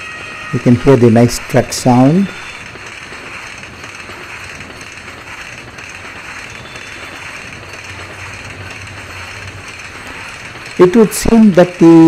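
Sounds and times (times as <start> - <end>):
train passing at high speed: 0.0 - 12.0.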